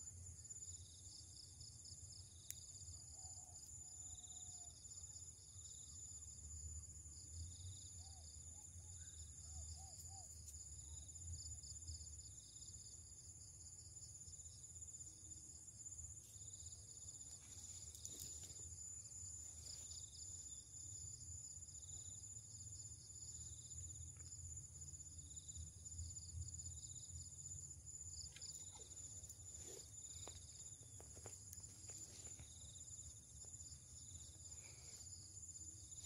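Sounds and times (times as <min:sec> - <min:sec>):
pulsing insect chirp: 0:00.0 - 0:36.0.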